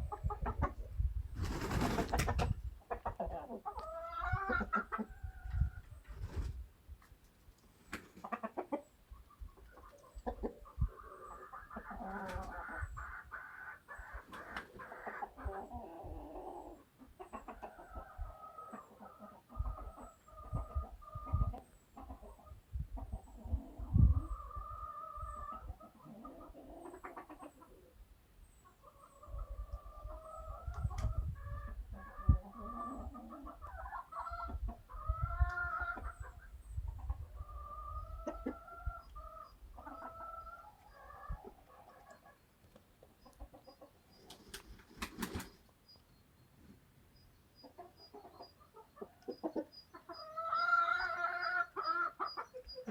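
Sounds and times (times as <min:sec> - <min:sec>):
hens clucking: 0:00.0 - 0:01.1, 0:01.7 - 0:06.2, 0:07.9 - 0:45.7, 0:47.6 - 0:52.9
long drawn-out chicken calls: 0:01.8 - 0:06.5, 0:07.8 - 0:52.9.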